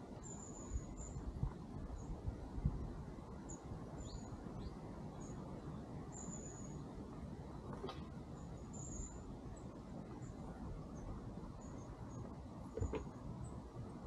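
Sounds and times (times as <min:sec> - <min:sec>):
low steady rumble: 0:00.0 - 0:14.0
small birds chirping: 0:00.0 - 0:14.0.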